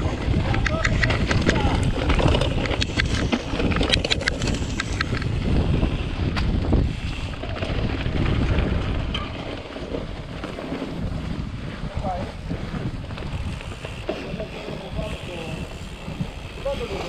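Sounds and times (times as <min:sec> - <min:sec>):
bike rattling over bumps: 0:00.0 - 0:17.0
tyres rolling on dirt: 0:00.0 - 0:17.0
wind on microphone: 0:00.0 - 0:17.0.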